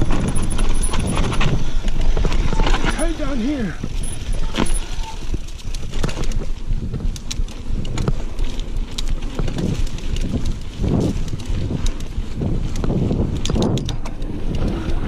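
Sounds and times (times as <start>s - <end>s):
bike frame rattling and clicking: 0.0s - 15.0s
tyres rumbling on dirt: 0.0s - 15.0s
wind on microphone: 0.0s - 15.0s.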